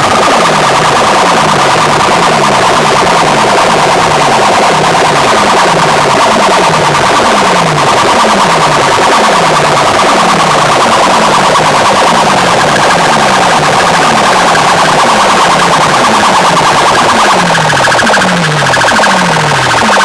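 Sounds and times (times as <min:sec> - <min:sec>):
loud distorted electronic music: 0:00.0 - 0:20.0.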